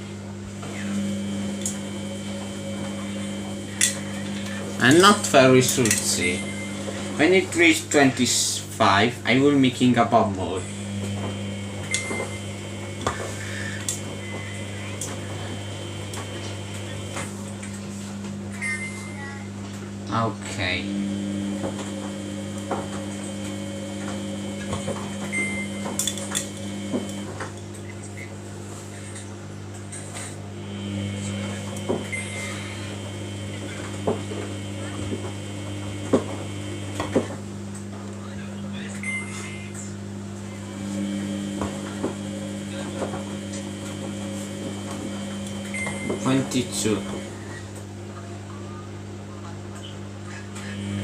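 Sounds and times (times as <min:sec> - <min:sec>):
washing machine motor hum: 0:00.0 - 0:51.0.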